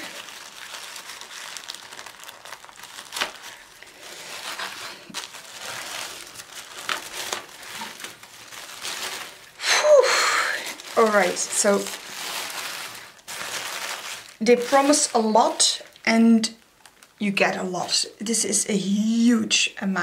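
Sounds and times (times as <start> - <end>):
tissue paper crinkling: 0.0 - 18.0.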